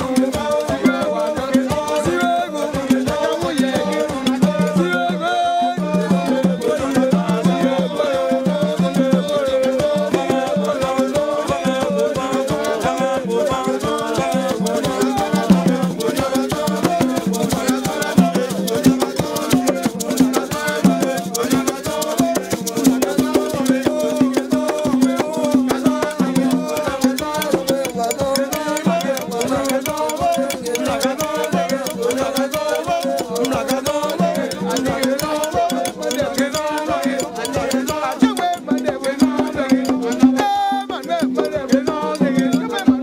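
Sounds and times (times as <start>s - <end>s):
shaker rattle rhythm: 0.0s - 43.0s
voices singing: 0.0s - 43.0s.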